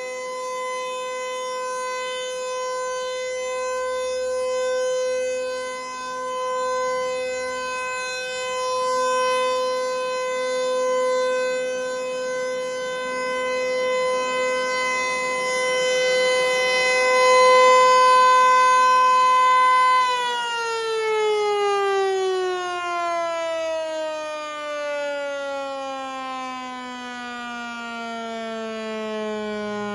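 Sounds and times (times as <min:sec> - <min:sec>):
rotating warning siren: 0:00.0 - 0:29.9.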